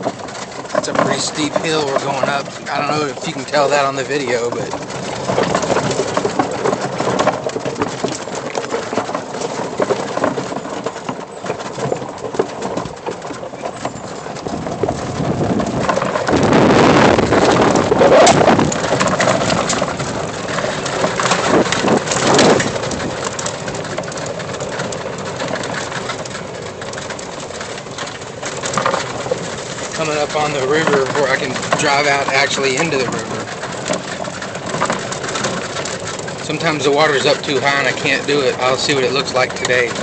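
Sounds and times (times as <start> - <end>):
golf cart driving on dirt: 0.0 - 40.0
small clicks and knocks: 0.0 - 40.0.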